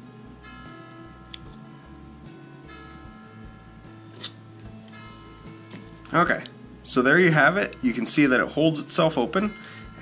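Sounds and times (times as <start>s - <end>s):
slow melody of ringing notes: 0.0s - 10.0s.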